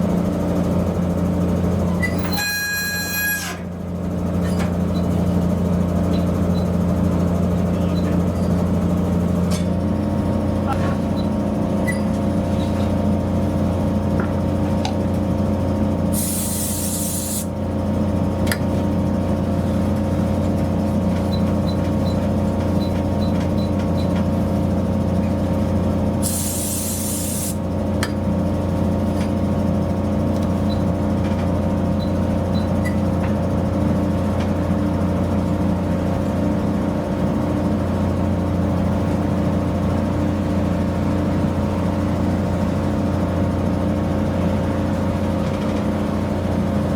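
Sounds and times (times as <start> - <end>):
diesel engine idling: 0.0 - 2.3, 3.6 - 46.9.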